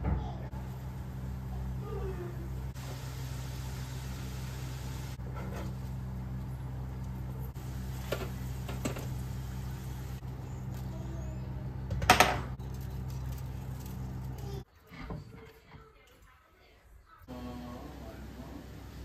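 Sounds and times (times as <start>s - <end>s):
low appliance hum: 0.0s - 16.4s, 17.0s - 19.0s.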